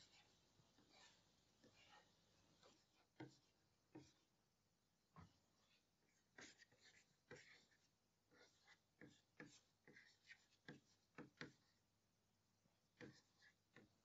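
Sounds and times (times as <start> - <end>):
chalk writing on blackboard: 0.0 - 4.3, 5.5 - 11.8, 13.0 - 14.0.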